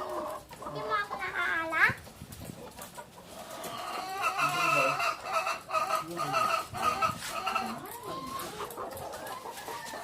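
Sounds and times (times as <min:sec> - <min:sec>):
hens clucking and squawking: 0:00.0 - 0:10.0.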